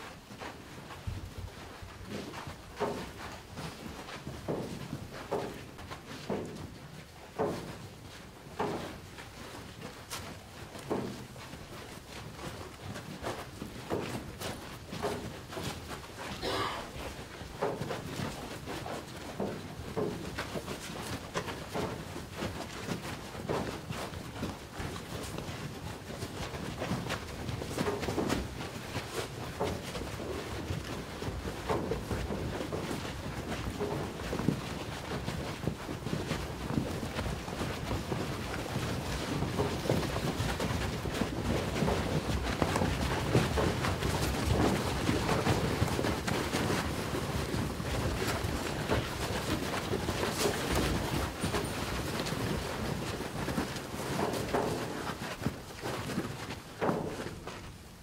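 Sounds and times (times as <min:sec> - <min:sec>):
footsteps shuffling on dirt: 0:00.0 - 0:58.0.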